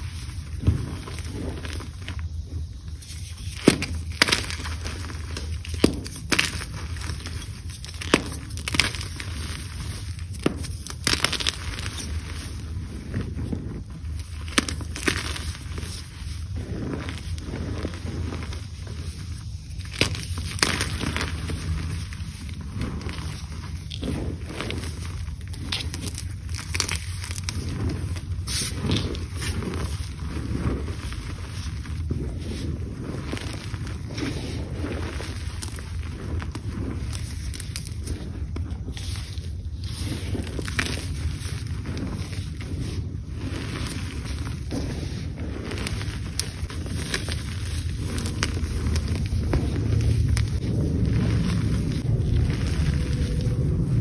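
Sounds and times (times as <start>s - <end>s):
chalk crunching: 0.0s - 54.0s
low steady rumble: 0.0s - 54.0s.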